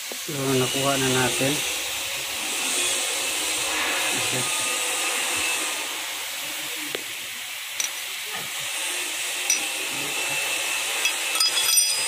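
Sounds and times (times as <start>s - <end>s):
metal lathe running: 0.3s - 12.0s.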